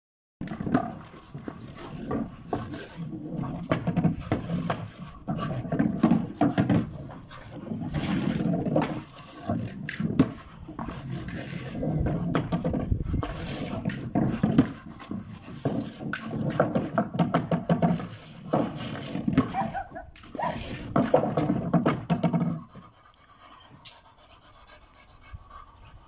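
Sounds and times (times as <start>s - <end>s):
ball and paws knocking on boards: 0.4s - 22.9s.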